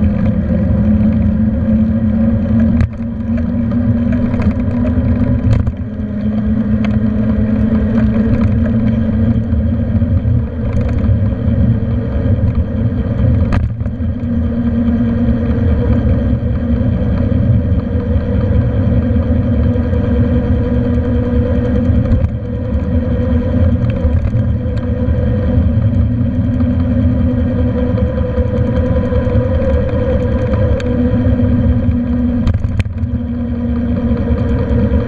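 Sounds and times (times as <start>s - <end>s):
droning hum: 0.0s - 35.0s.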